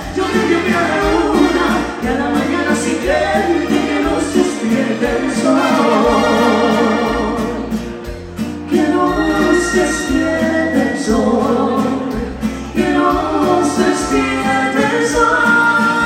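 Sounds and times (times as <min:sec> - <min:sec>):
person singing: 0:00.0 - 0:07.9, 0:08.7 - 0:16.0
dance orchestra playing latin pop: 0:00.0 - 0:16.0.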